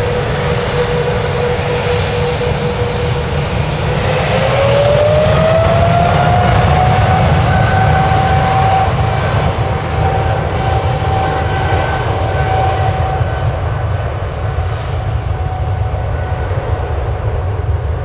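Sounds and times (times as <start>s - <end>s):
deep rumble: 0.0s - 18.0s
jet engines whining: 0.0s - 18.0s.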